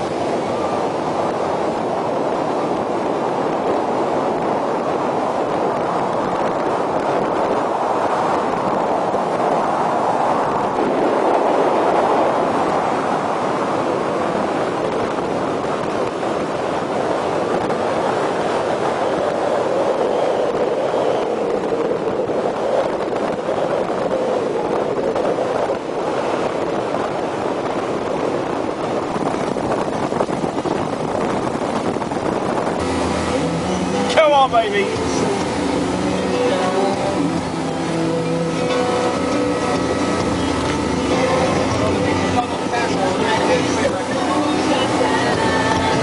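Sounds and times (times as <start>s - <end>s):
motorboat under way: 0.0s - 46.0s
water washing along hull: 0.0s - 46.0s
wind buffeting microphone: 0.0s - 46.0s.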